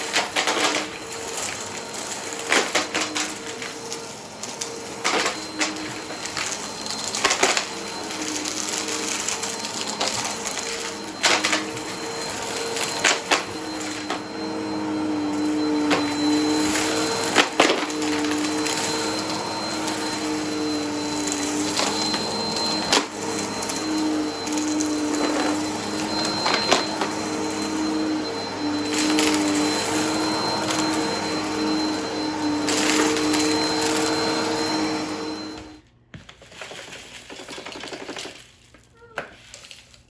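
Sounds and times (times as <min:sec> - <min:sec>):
vacuum cleaner running: 0:00.0 - 0:35.8.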